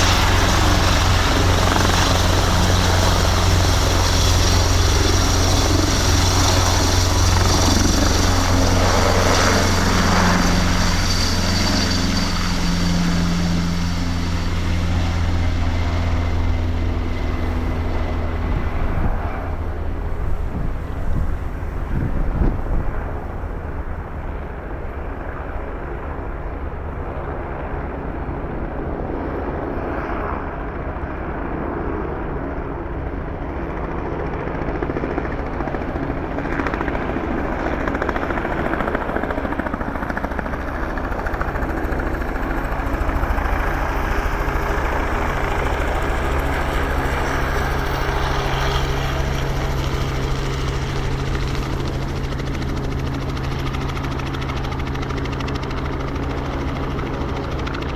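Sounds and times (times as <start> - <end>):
helicopter rotor and turbine: 0.0 - 57.9.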